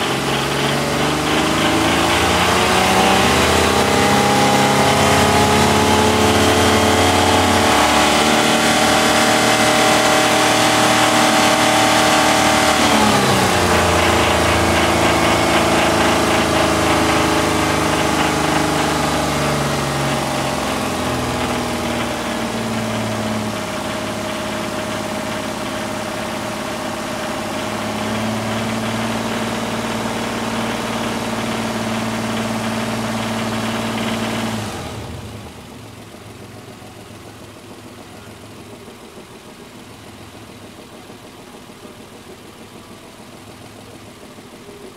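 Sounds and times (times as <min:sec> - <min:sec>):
engine knocking: 0:00.0 - 0:44.9
engine revving and idling: 0:00.0 - 0:44.9.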